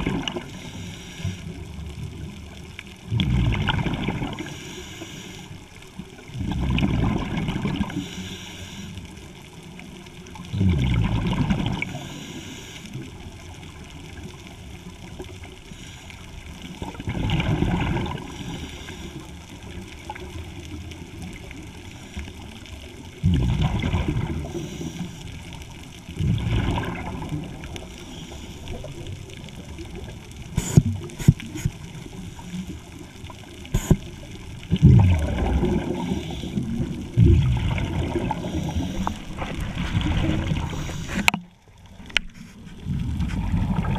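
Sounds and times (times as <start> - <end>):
underwater exhaust bubbles: 0.0 - 43.9.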